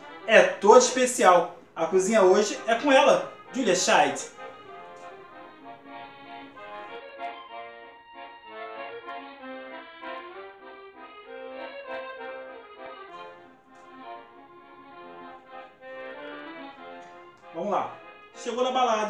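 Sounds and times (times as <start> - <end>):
accordion melody: 0.0 - 19.0.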